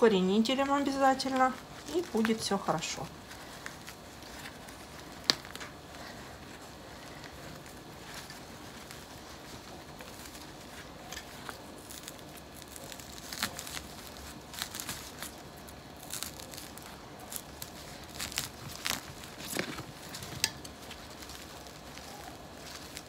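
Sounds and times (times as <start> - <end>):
leaves rustling: 0.0 - 23.0
soil crumbling and crackling: 3.4 - 23.0.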